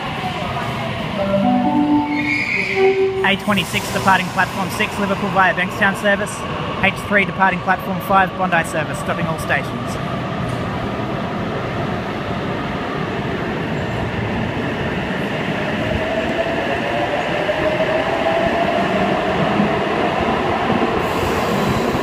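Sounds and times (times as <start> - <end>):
train wheels rumbling: 2.3 - 22.0.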